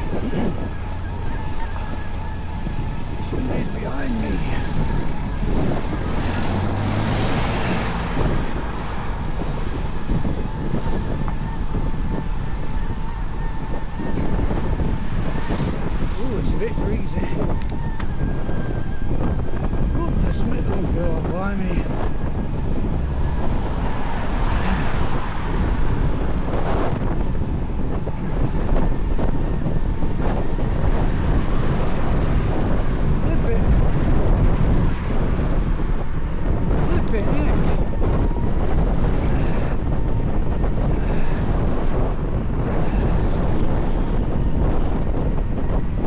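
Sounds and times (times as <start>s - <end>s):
passing vehicle hum: 0.0s - 20.0s, 21.8s - 46.0s
wind buffeting microphone: 0.0s - 46.0s.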